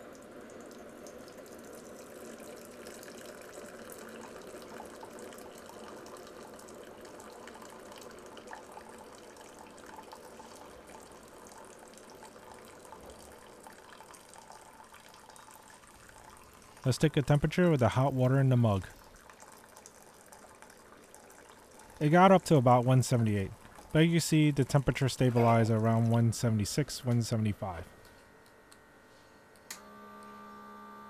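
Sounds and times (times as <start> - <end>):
water pouring into a mug: 0.0 - 27.8.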